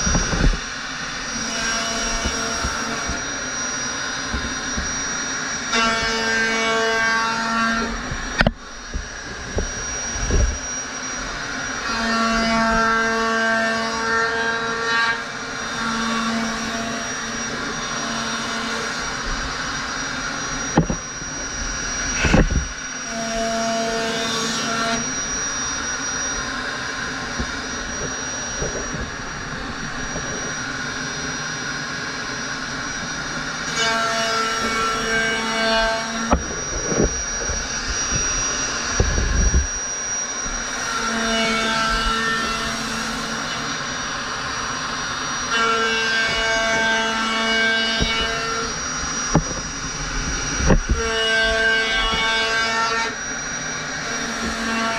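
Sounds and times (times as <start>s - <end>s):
lower cutting hum: 0.0s - 54.9s
router motor whine: 0.0s - 54.9s.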